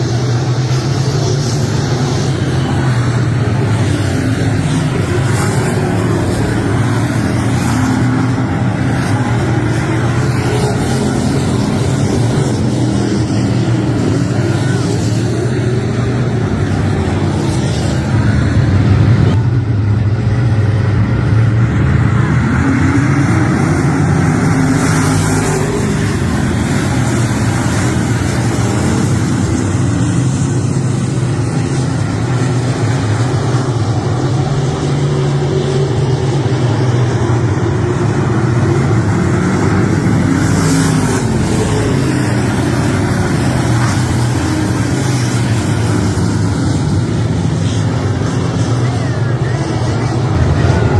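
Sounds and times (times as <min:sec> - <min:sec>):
race car engine: 0:00.0 - 0:50.9.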